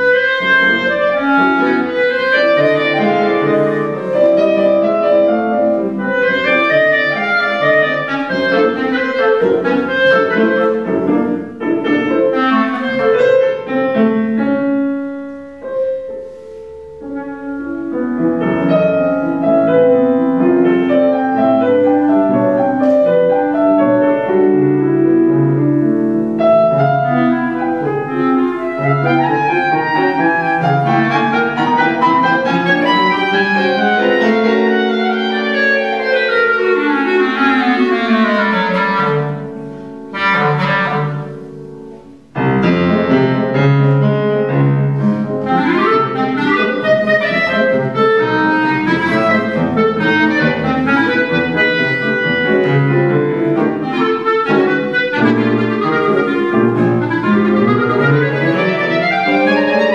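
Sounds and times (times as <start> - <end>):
clarinet and piano duet: 0.0 - 59.9.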